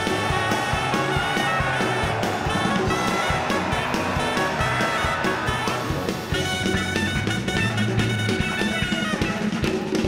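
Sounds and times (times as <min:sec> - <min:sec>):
instrumental theme music with beat: 0:00.0 - 0:10.0.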